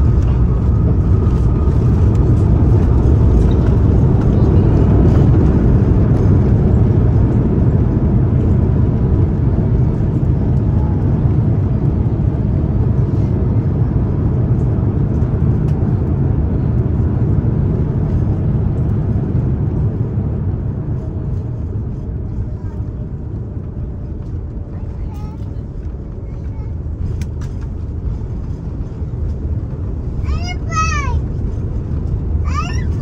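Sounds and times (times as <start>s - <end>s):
aircraft cabin rumble: 0.0s - 33.0s.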